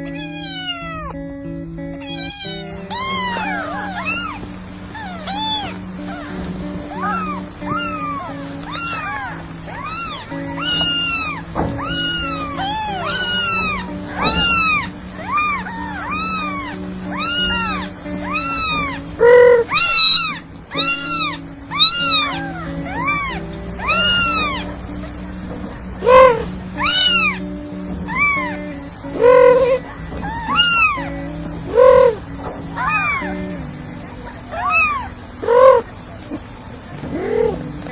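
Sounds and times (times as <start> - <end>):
kitten meowing: 0.0 - 1.2, 1.9 - 25.2, 26.0 - 35.9
background music: 0.0 - 36.0.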